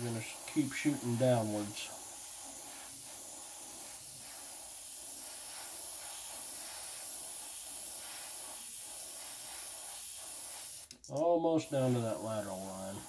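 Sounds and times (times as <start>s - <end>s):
airbrush spraying paint: 0.0s - 13.0s.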